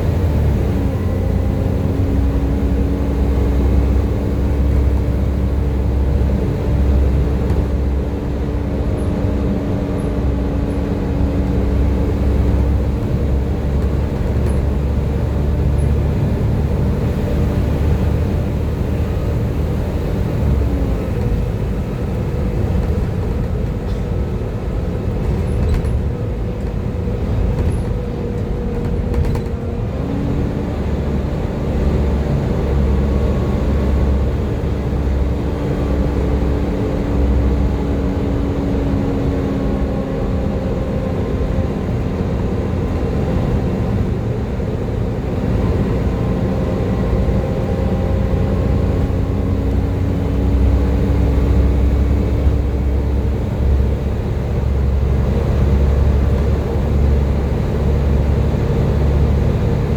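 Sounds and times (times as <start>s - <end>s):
bus diesel engine rumbling: 0.0s - 59.9s.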